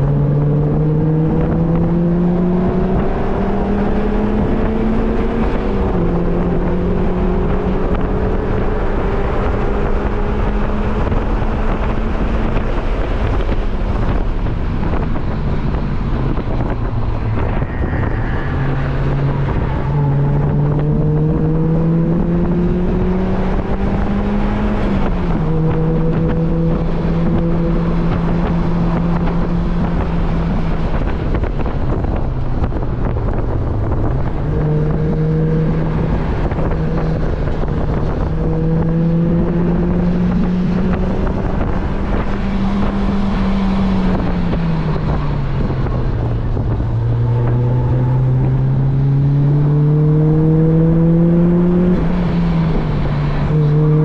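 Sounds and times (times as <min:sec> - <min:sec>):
sports car engine revving: 0:00.0 - 0:54.0
wind rushing: 0:00.0 - 0:54.0.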